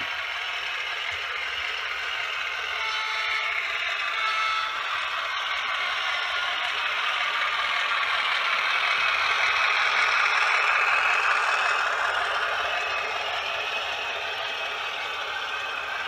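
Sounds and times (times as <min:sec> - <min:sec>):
model train wheels clattering: 0:00.0 - 0:16.0.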